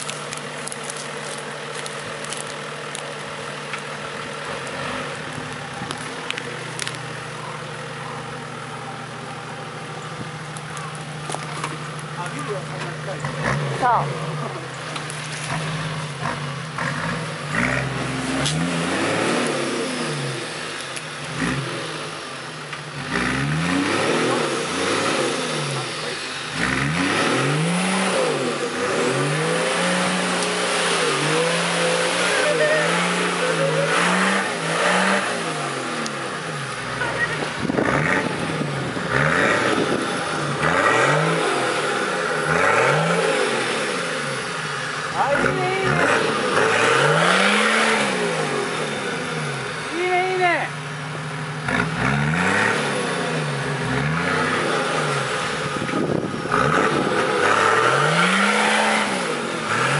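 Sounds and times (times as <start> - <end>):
engine revving: 3.7 - 7.6, 10.4 - 59.9.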